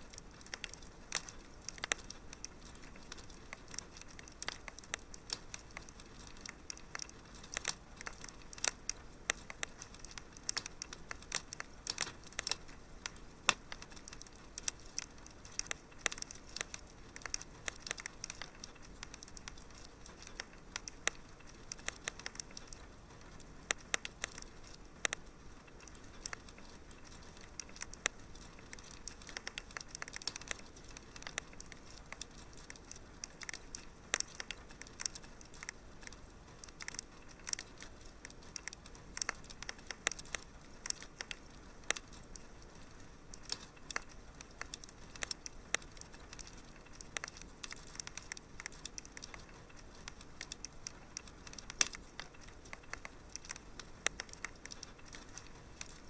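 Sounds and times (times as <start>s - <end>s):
faint steady hiss: 0.0s - 56.0s
fire pops and snaps: 0.0s - 56.0s
wood fire crackling: 0.0s - 56.0s.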